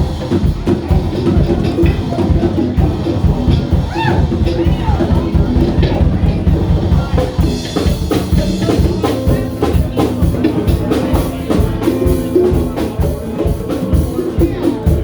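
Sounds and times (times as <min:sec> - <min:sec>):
band playing music: 0:00.0 - 0:15.0
drum kit beat: 0:00.0 - 0:15.0.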